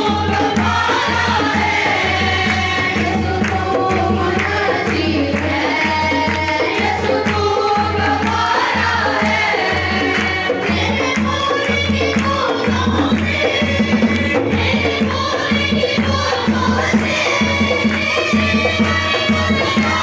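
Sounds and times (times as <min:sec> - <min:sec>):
boy and women singing worship song: 0:00.0 - 0:20.0
steady low drum beat: 0:00.0 - 0:20.0.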